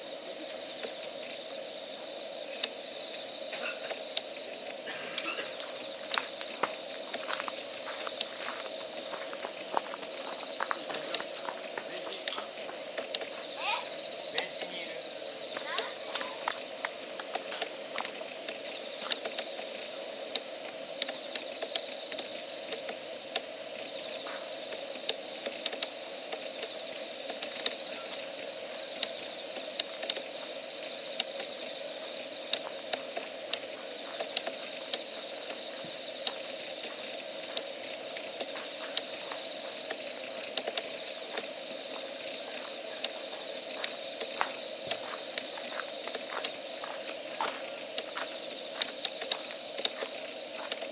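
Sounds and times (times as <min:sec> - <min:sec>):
campfire crackling: 0:00.0 - 0:50.9
high-pitched whine: 0:00.0 - 0:50.9.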